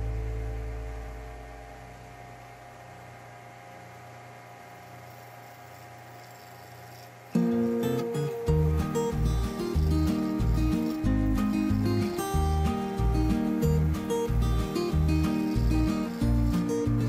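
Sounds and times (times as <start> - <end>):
wood lathe motor hum: 2.8 - 17.0.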